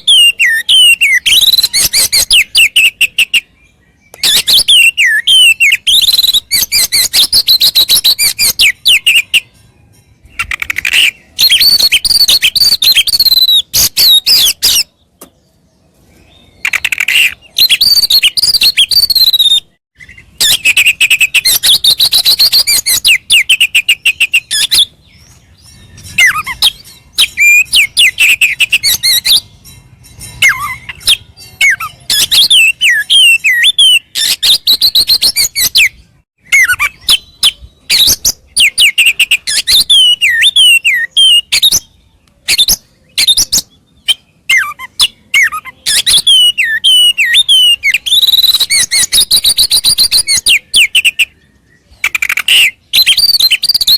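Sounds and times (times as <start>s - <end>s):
bird singing chattering notes: 0.0s - 53.9s.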